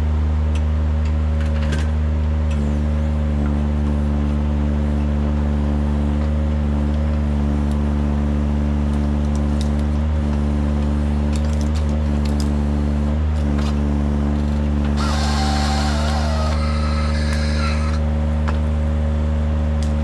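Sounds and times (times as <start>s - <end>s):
forestry machine engine running: 0.0s - 20.0s.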